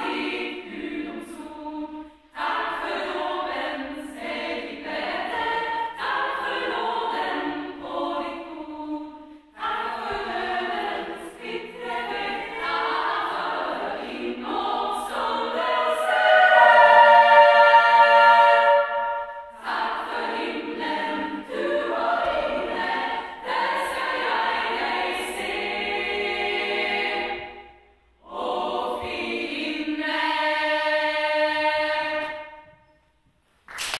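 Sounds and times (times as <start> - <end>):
women's choir singing unaccompanied: 0.0 - 32.9.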